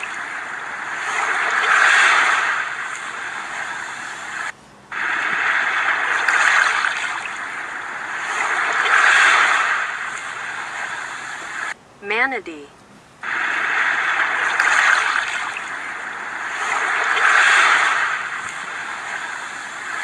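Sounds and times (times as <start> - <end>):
sea waves washing: 0.0 - 11.8, 13.2 - 20.0.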